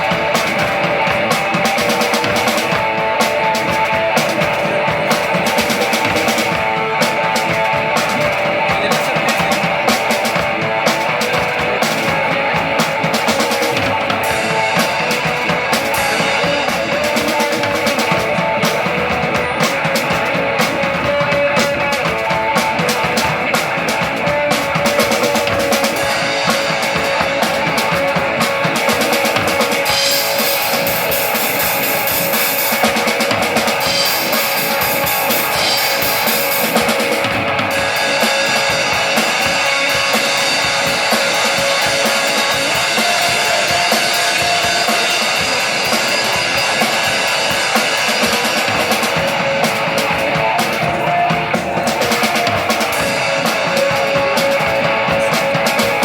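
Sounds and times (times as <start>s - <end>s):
cymbals crashing: 0.0s - 56.0s
live rock band playing: 0.0s - 56.0s.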